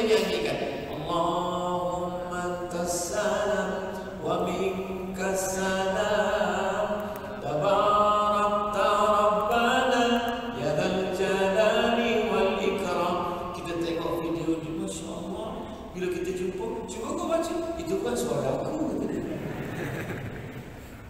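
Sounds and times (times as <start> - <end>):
man chanting: 0.0 - 19.2.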